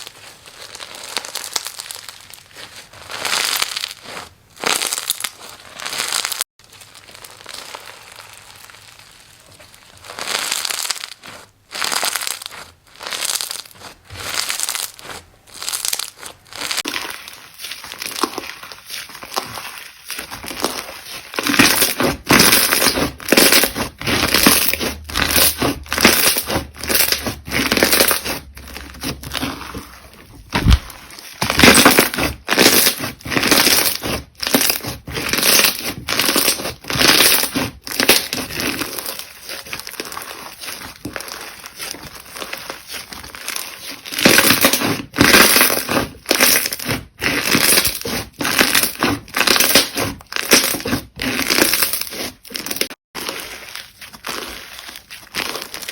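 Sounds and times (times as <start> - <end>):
slime crackling and popping: 0.0 - 55.9.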